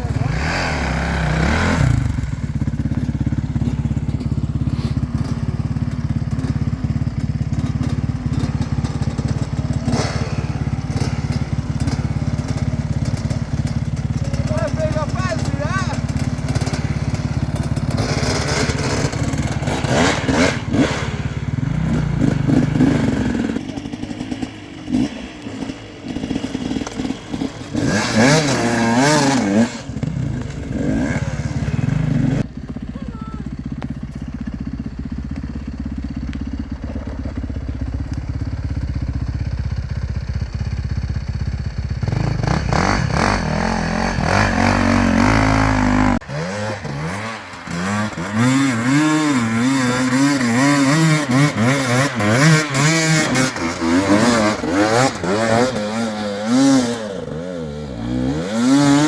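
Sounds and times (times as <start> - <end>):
dirt bike engines revving: 0.0 - 35.4, 42.0 - 59.0.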